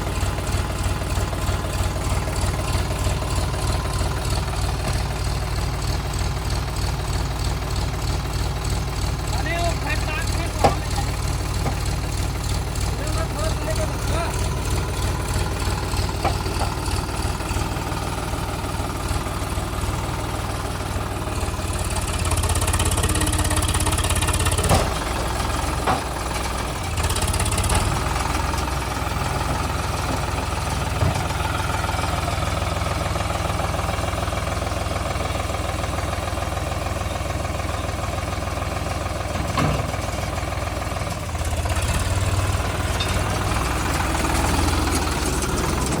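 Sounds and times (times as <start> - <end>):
backhoe diesel engine running: 0.0 - 46.0.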